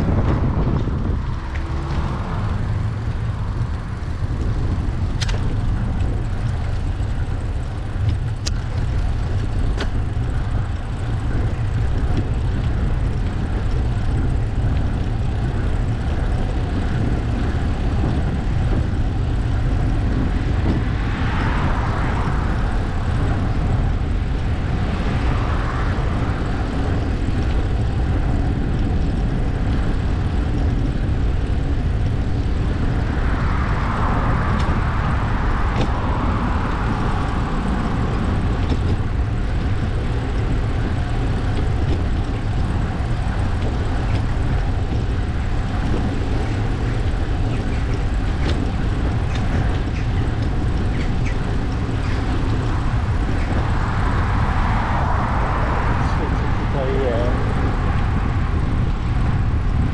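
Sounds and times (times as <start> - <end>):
road noise: 0.0 - 59.9
wind rumble: 0.0 - 59.9.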